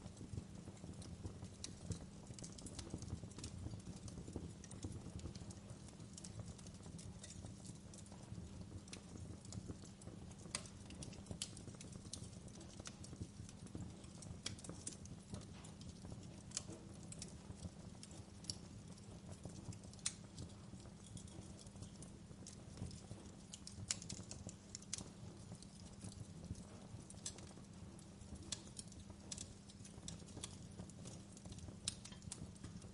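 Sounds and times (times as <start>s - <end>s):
low fire rumble: 0.0s - 32.9s
wood fire crackling: 0.0s - 32.9s.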